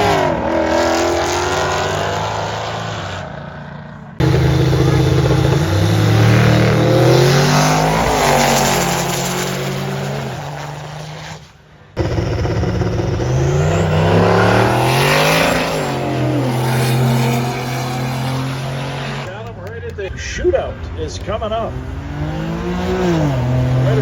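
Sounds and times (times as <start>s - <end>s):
drag race cars passing: 0.0s - 24.0s.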